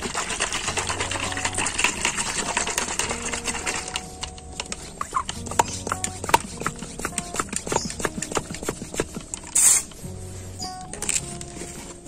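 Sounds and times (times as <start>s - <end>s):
sprayer bottle shaken and sloshing: 0.0s - 12.0s.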